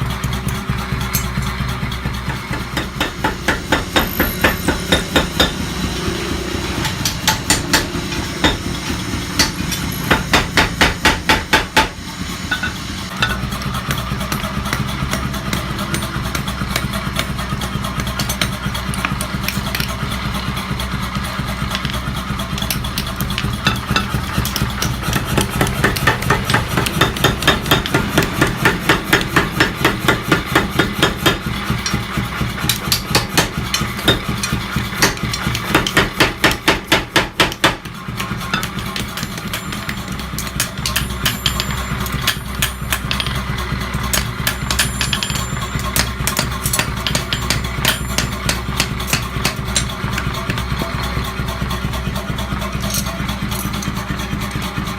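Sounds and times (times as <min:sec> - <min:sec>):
steady motor hum: 0:00.0 - 0:54.9.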